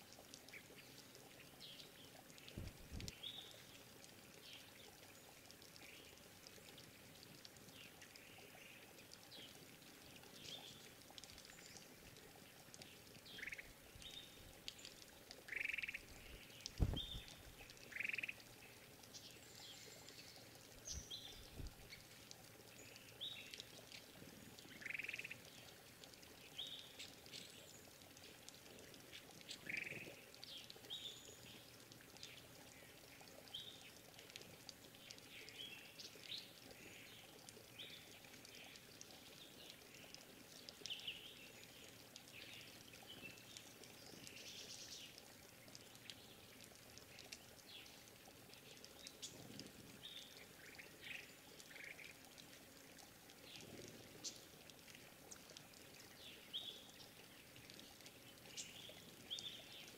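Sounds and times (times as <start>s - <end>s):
faint trickle of water: 0.0s - 59.9s
small birds chirping: 0.4s - 6.2s, 7.7s - 25.8s, 26.4s - 34.2s, 34.9s - 52.4s, 55.2s - 59.9s.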